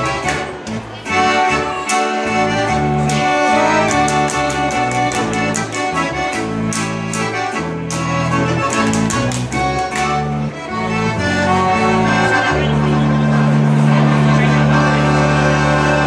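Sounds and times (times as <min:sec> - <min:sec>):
accordion: 0:00.0 - 0:16.0
pulsing bass line: 0:02.5 - 0:16.0.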